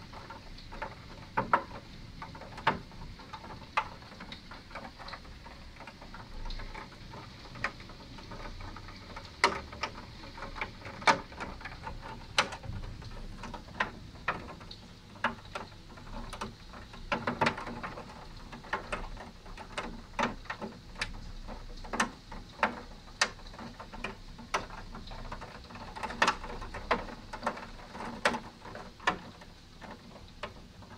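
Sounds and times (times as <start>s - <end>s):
hailstones striking hard surfaces: 0.0s - 30.9s.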